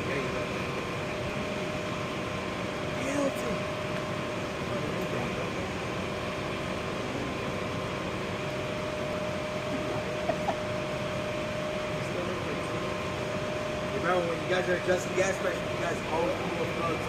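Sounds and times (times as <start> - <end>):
furnace fan rushing: 0.0 - 17.0
steady hum: 0.0 - 17.0.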